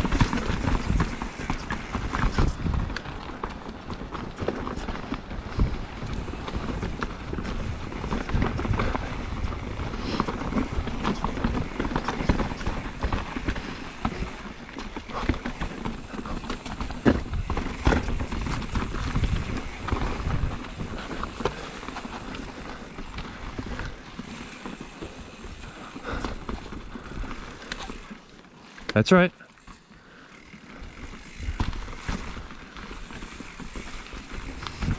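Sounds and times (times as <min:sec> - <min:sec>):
mountain bike rattling: 0:00.0 - 0:34.9.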